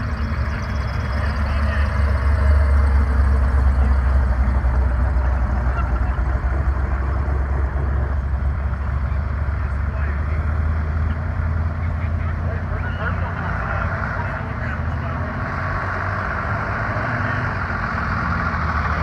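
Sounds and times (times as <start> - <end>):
car engine rumbling past: 0.0 - 19.0.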